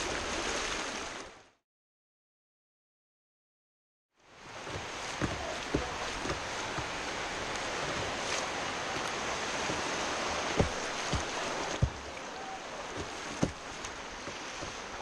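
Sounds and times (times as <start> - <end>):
river water rushing: 0.0 - 1.3, 4.2 - 15.0.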